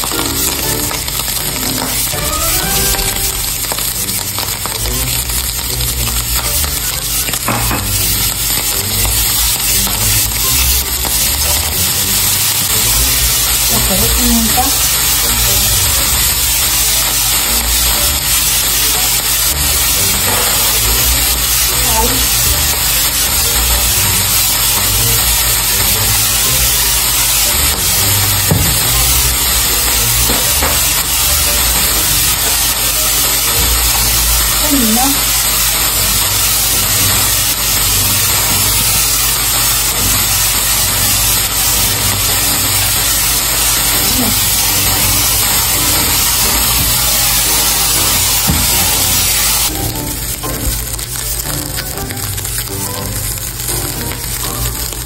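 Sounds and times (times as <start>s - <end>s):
peppers and ham sizzling: 0.0s - 55.0s.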